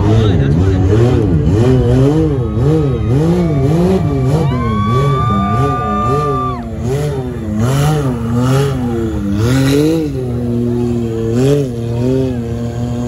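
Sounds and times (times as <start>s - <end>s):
utility vehicle engines revving: 0.0s - 13.0s.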